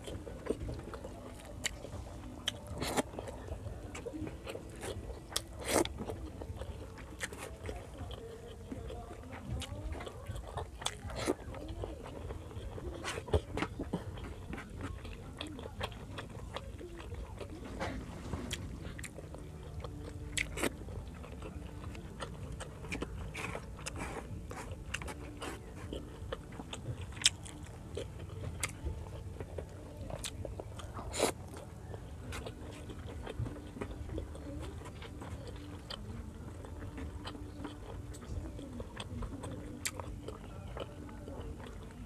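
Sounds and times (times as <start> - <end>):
wet chewing and mouth sounds: 0.0 - 42.0.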